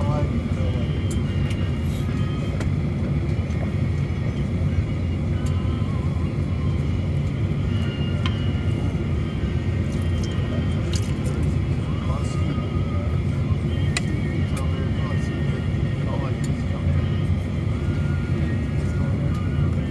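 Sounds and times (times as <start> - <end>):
airliner cabin low rumble: 0.0 - 19.9.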